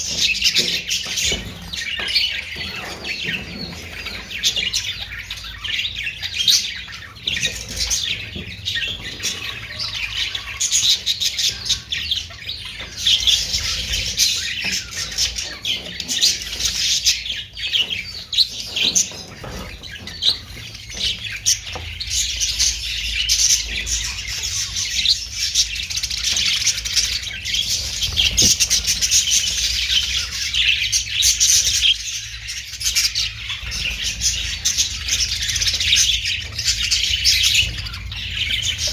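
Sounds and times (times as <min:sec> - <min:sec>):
parakeets chattering and chirping: 0:00.0 - 0:38.9.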